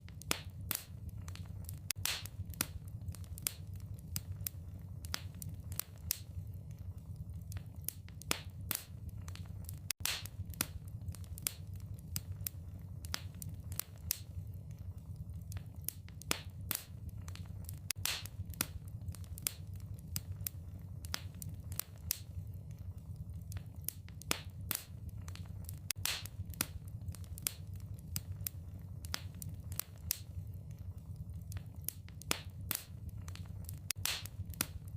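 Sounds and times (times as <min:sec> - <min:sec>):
low rumble of burning: 0:00.0 - 0:34.9
wood fire crackling: 0:00.0 - 0:34.9.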